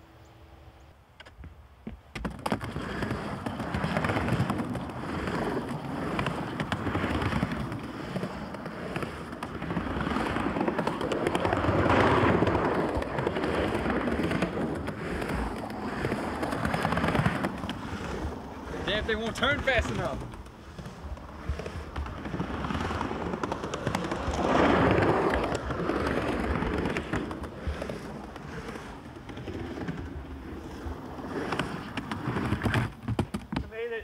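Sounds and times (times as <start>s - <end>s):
skateboard wheels rumbling: 1.2s - 34.0s.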